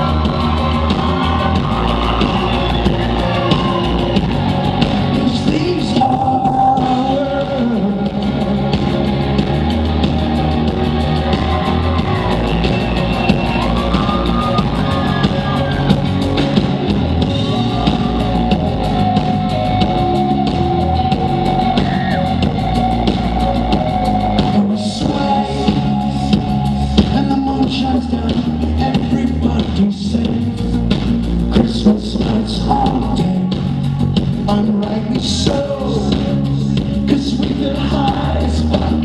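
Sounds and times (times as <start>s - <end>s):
live rock band playing: 0.0s - 39.0s.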